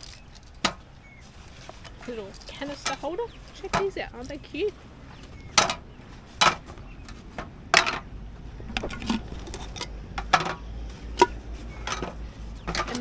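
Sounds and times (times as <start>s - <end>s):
camping stove gear clinking: 0.0s - 13.0s.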